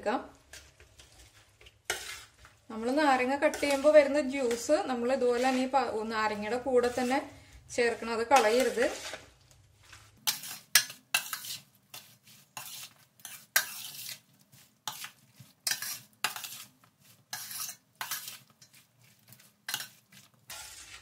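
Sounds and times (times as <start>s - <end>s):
spoon scraping metal bowl: 0.5s - 21.0s.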